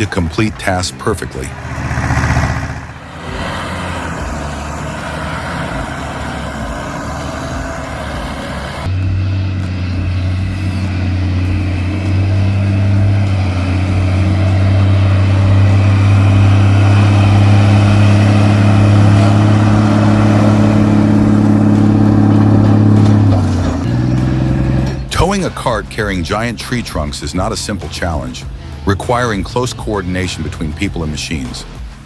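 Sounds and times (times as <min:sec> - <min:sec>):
tractor diesel engine droning: 0:00.0 - 0:32.0.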